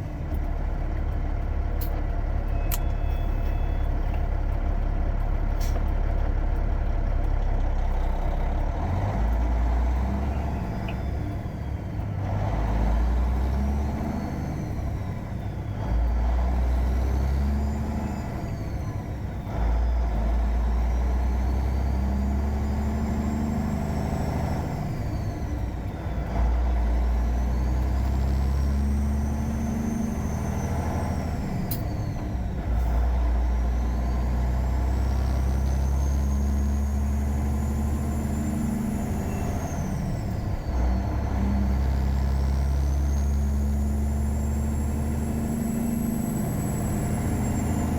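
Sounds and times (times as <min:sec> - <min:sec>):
truck diesel engine droning: 0:00.0 - 0:47.9.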